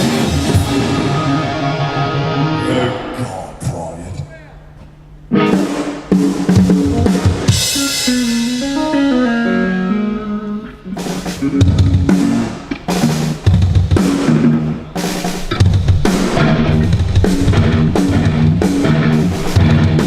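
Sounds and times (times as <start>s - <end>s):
drum kit: 0.0s - 3.2s, 4.9s - 20.0s
heavy metal band playing: 0.0s - 3.7s, 5.3s - 20.0s
distorted electric guitar: 0.0s - 20.0s.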